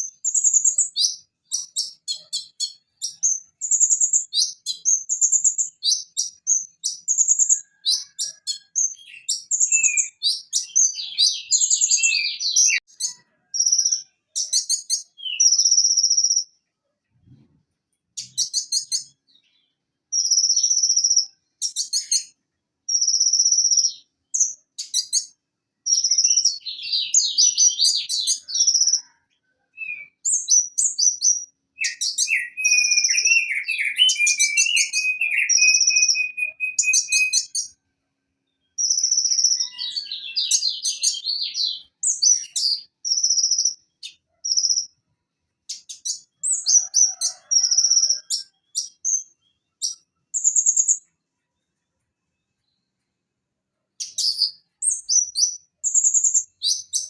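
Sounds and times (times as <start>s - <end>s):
bird singing high-pitched chirps: 0.0s - 16.6s, 18.2s - 37.8s, 38.5s - 45.0s, 45.7s - 51.1s, 54.0s - 57.0s.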